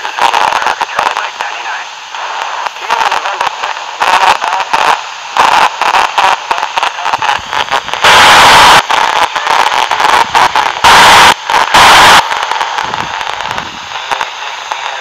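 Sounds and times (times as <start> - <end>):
radio static and hiss: 0.0 - 15.0.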